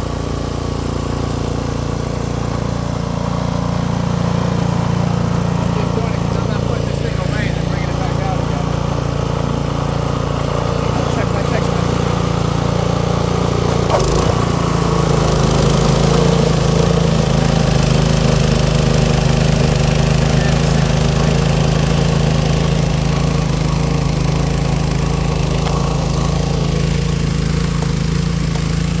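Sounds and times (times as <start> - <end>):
snow blower engine running: 0.0 - 29.0.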